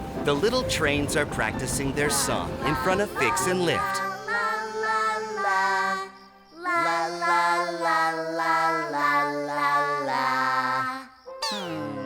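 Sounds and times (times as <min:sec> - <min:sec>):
music: 0:00.0 - 0:12.0
cartoon child voices singing: 0:02.0 - 0:12.0.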